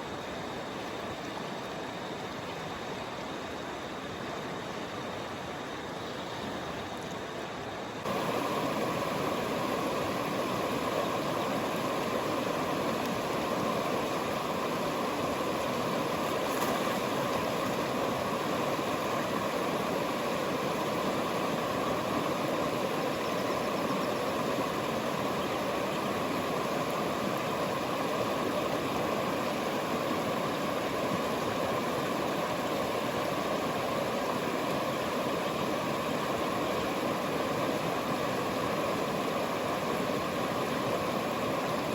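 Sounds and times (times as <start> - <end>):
rushing river water: 0.0 - 41.9.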